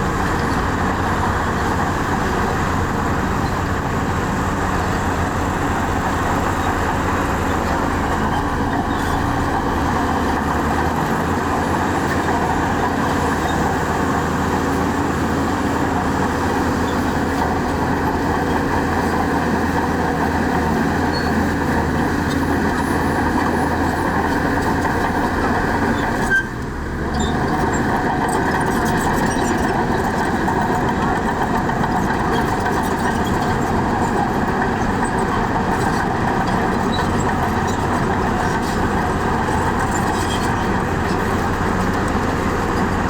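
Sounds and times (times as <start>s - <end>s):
diesel construction machinery running: 0.0s - 43.0s.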